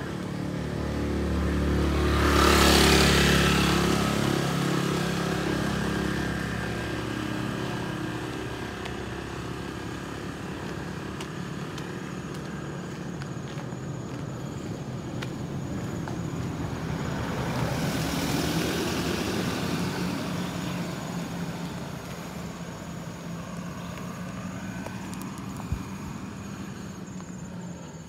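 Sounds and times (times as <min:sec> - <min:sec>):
motorcycle passing: 0:00.0 - 0:28.0.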